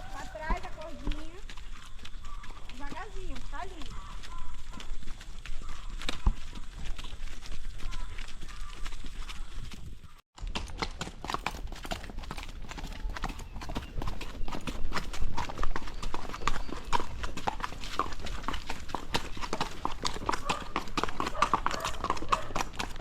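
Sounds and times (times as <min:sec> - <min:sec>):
horse hooves clip-clopping: 0:00.0 - 0:23.0.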